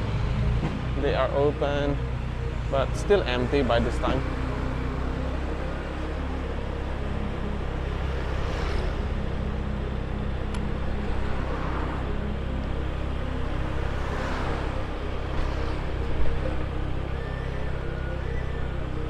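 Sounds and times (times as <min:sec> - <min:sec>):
scooter engine and wind rumble: 0:00.0 - 0:19.0
vehicles passing: 0:00.0 - 0:19.0.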